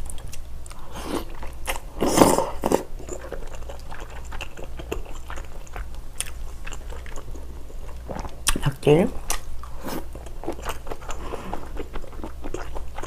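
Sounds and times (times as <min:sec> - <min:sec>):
wet chewing with mouth clicks: 0:00.0 - 0:13.0.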